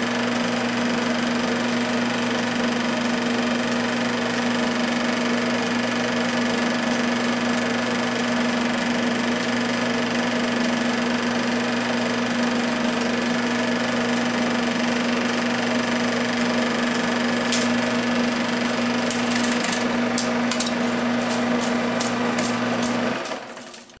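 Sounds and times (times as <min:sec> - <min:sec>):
film projector running: 0:00.0 - 0:24.0.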